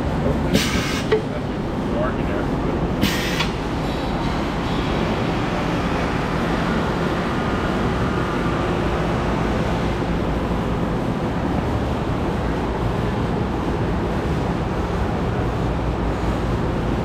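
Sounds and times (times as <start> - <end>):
shop machinery running: 0.0 - 17.0.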